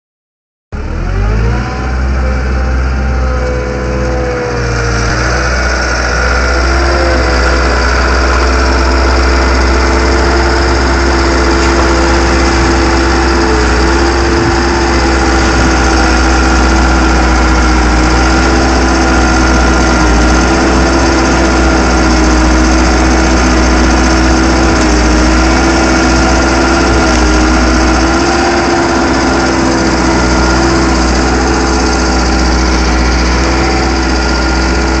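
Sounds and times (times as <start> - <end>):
auger churning through mulch: 0.8 - 35.0
machine engine running at high revs: 0.8 - 35.0.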